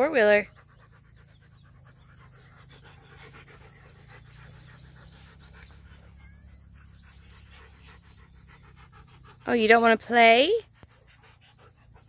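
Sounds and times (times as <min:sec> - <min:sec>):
dog panting: 0:00.0 - 0:12.0
faint low hum: 0:00.0 - 0:12.0.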